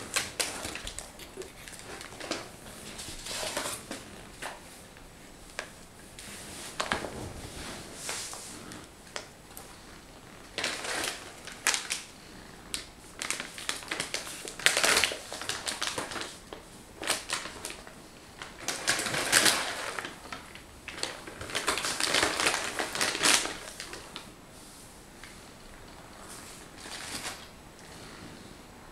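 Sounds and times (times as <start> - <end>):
packaging rustling and crinkling: 0.0 - 24.4, 25.2 - 27.6.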